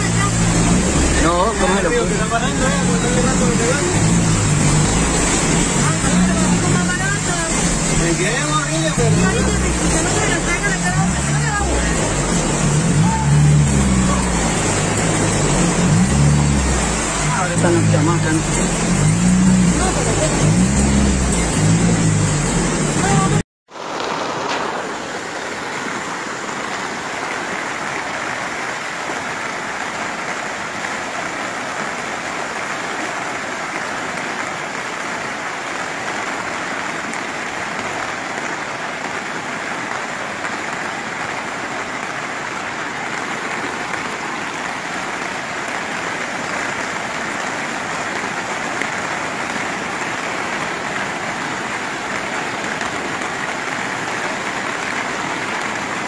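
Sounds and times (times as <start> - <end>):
floodwater rushing down a street: 0.0 - 56.0.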